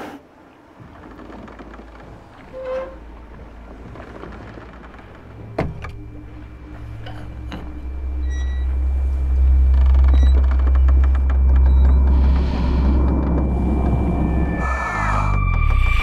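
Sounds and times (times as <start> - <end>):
deep low rumble: 0.9 - 16.0.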